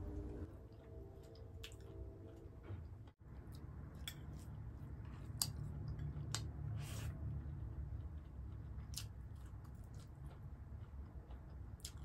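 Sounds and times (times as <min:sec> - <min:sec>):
faint steady hum: 0:00.0 - 0:12.0
chewing and mouth noises: 0:00.6 - 0:12.0.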